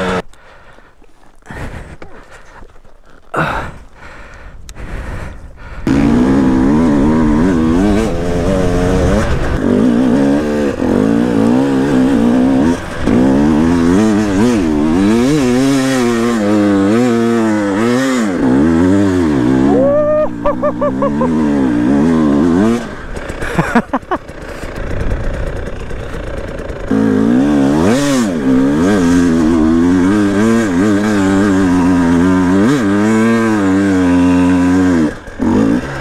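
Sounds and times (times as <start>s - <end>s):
dirt bike engine revving: 0.0s - 0.2s, 5.6s - 36.0s.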